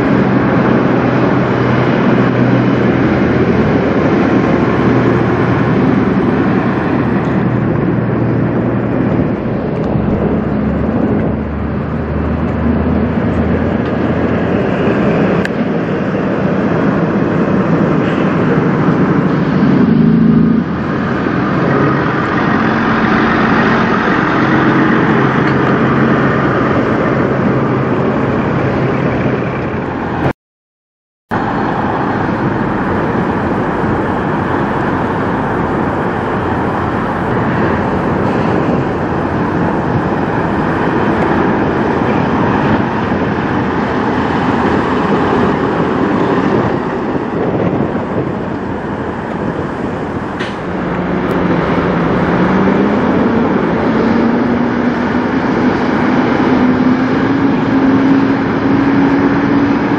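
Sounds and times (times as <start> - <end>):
diesel truck pulling away under load: 0.0 - 30.3, 31.3 - 59.9
truck approaching: 0.0 - 30.3, 31.3 - 59.9.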